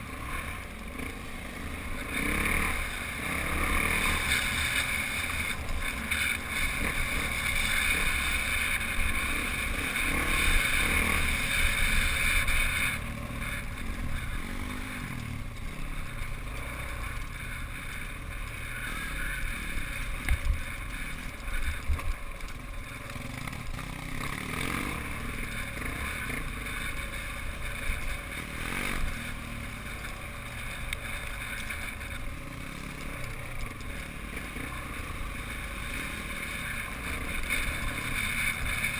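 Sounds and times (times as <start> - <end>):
small motorbike engine running: 0.0 - 38.9.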